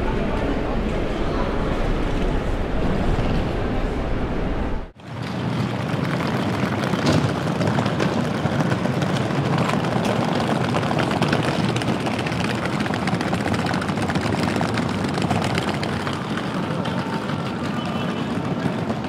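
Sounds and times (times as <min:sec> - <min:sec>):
train station waiting room din: 0:00.0 - 0:19.0.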